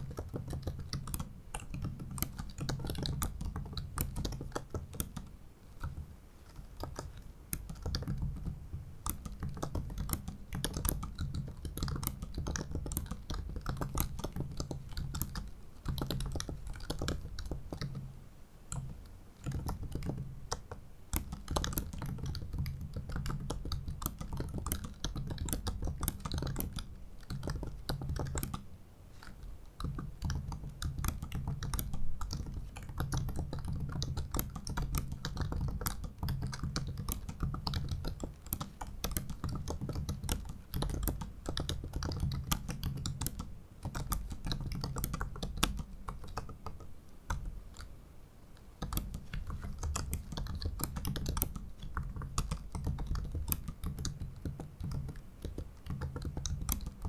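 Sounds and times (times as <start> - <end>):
laptop keyboard typing: 0.0 - 57.0.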